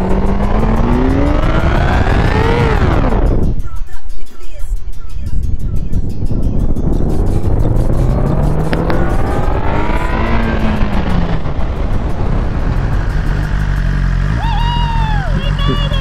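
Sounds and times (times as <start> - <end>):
motorcycle engine accelerating: 0.0 - 3.6, 6.6 - 16.0
wind rumble on microphone: 0.0 - 3.8, 5.2 - 16.0.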